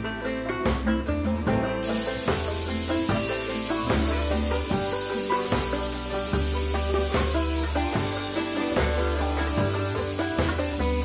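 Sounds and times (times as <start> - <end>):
plucked notes over bass line: 0.0 - 11.0.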